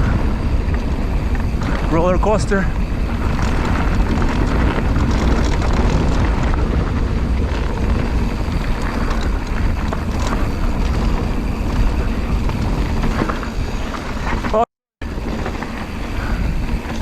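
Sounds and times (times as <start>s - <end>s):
bike clicking and rattling: 0.0s - 17.0s
bike tyres rumbling: 0.0s - 17.0s
wind rush on microphone: 0.0s - 17.0s.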